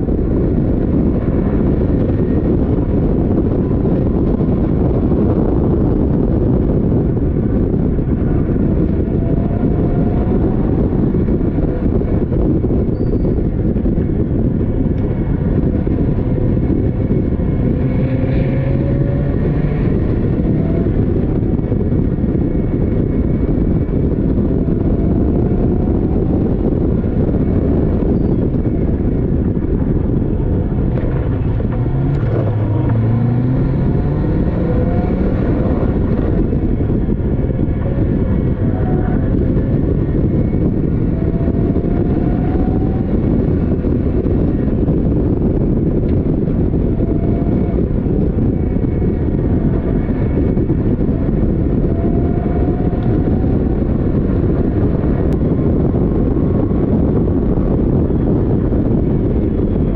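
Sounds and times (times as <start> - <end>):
wind noise on microphone: 0.0 - 59.9
race car engine accelerating: 0.4 - 59.9.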